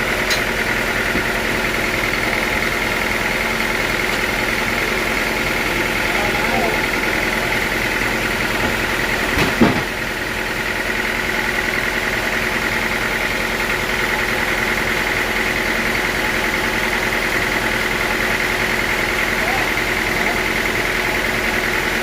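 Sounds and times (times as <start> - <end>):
sawmill machinery whining: 0.0 - 22.0.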